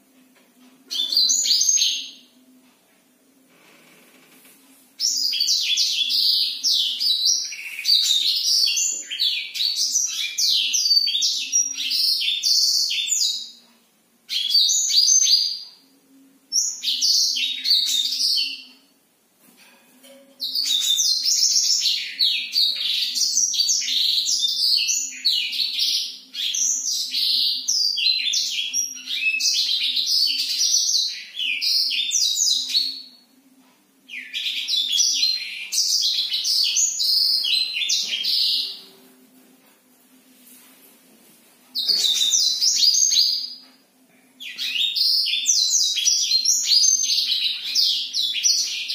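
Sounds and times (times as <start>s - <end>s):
canary song: 0.0s - 19.1s, 19.9s - 39.6s, 41.7s - 48.9s.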